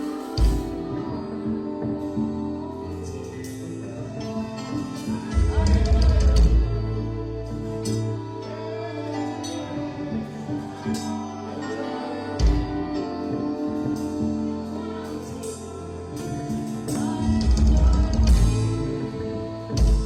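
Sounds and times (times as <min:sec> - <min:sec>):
drums: 0:00.0 - 0:20.0
guitar: 0:00.0 - 0:20.0
person singing: 0:00.0 - 0:20.0.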